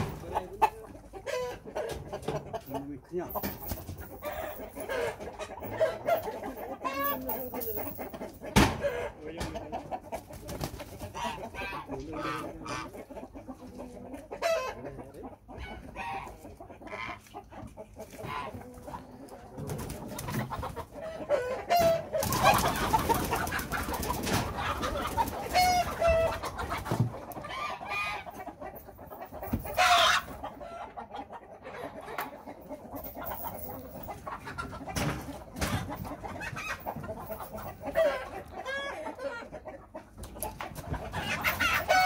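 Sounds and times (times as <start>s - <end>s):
chickens clucking and calling: 0.0s - 42.0s.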